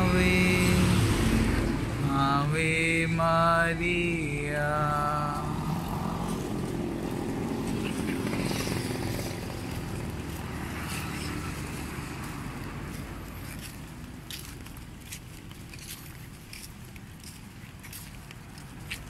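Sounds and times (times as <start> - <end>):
shuffling footsteps of crowd: 1.6 - 19.0.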